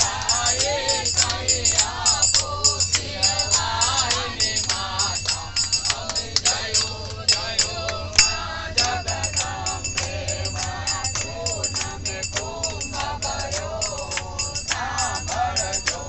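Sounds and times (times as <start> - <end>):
group singing devotional song: 0.0 - 16.0
hand clapping: 0.0 - 16.0
jingling percussion beat: 0.0 - 16.0
train rumble: 0.0 - 16.0.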